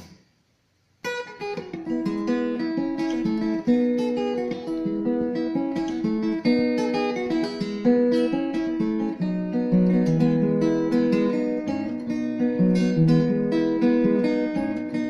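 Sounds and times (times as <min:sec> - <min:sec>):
acoustic guitar picked chords: 0:01.1 - 0:15.0.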